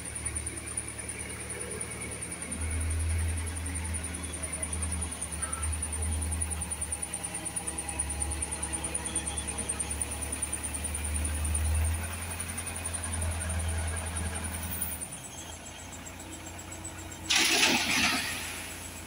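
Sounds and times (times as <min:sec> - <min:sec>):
diesel engine working under load: 0:00.0 - 0:19.0.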